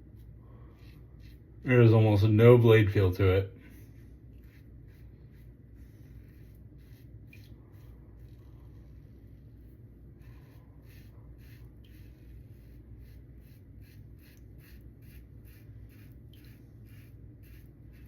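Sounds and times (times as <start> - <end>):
razor scratching stubble: 0.0 - 2.1, 3.7 - 18.0.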